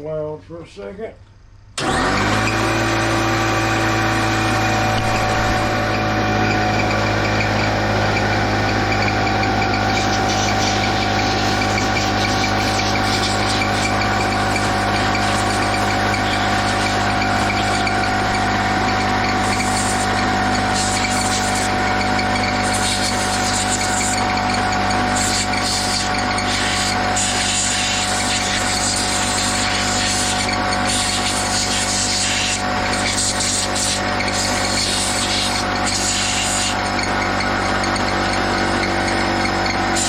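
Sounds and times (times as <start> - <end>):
machine whine: 1.3 - 40.0
motor-driven machine running: 1.6 - 40.0.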